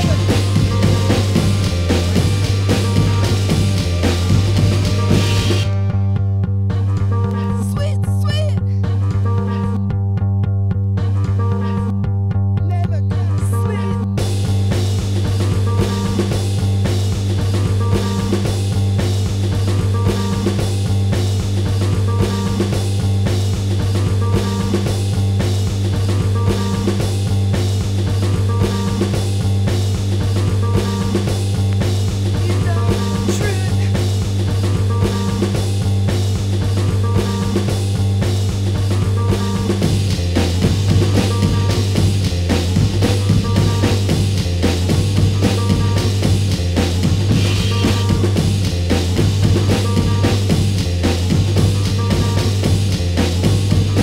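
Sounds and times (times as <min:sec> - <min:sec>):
drum kit: 0:00.0 - 0:54.0
guitar: 0:00.0 - 0:54.0
looping bass line: 0:00.0 - 0:54.0.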